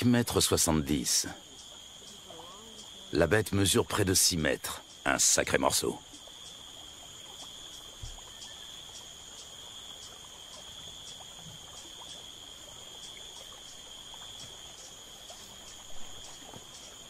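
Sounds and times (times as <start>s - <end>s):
insect chirping in pulses: 0.0s - 17.0s
insect high drone: 0.0s - 17.0s.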